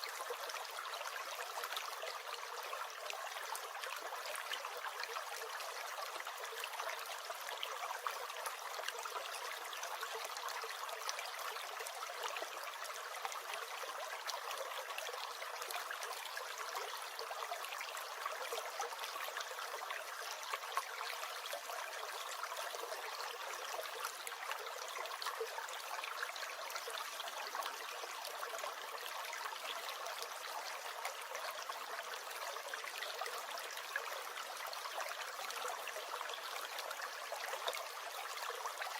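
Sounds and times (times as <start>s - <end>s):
brook gurgling: 0.0s - 38.9s.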